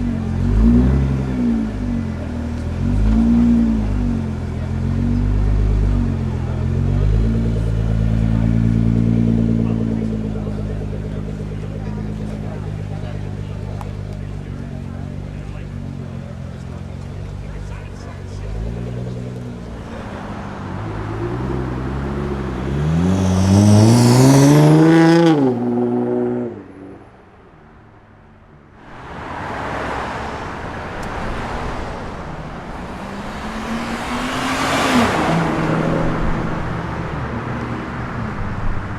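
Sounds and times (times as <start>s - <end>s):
car exhaust accelerating: 0.0s - 27.8s, 28.6s - 38.9s.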